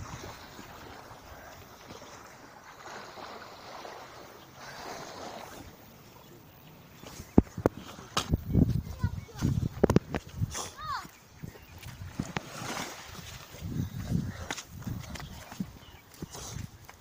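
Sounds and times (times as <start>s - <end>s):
sea: 0.0s - 17.0s
wind: 0.0s - 17.0s.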